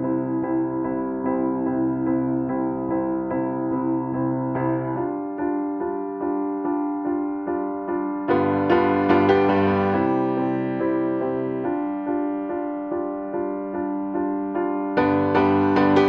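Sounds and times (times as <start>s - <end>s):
gentle piano tune: 0.0s - 16.0s.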